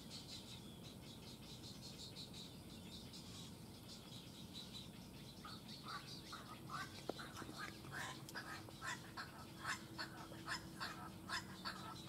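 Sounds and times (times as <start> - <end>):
faint steady hum: 0.0 - 12.0
herons calling: 0.0 - 12.0.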